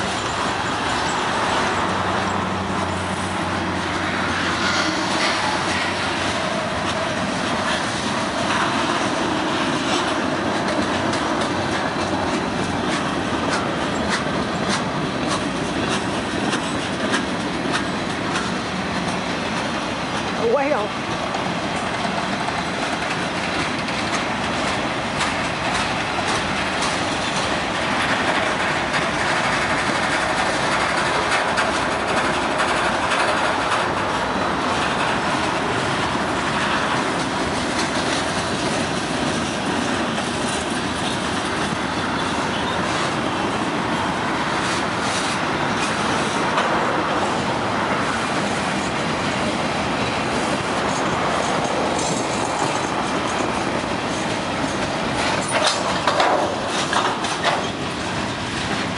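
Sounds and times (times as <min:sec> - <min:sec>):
freight train cars rolling past: 0:00.0 - 0:58.9
wheels clicking and clanking: 0:00.0 - 0:58.9.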